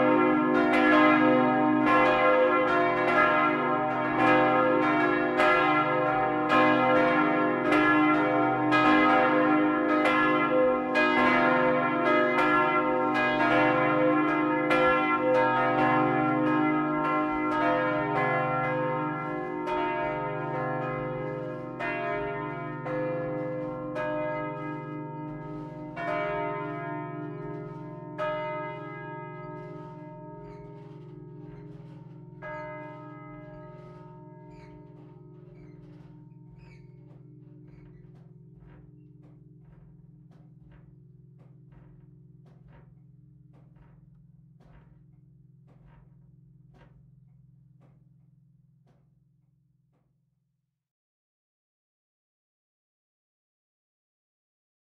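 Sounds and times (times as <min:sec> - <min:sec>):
church bells pealing: 0:00.0 - 0:48.1.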